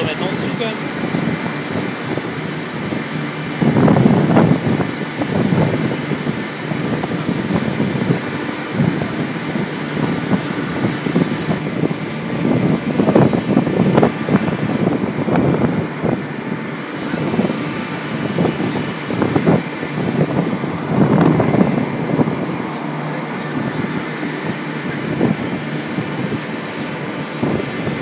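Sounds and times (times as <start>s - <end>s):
ship engine and deck machinery: 0.0s - 28.0s.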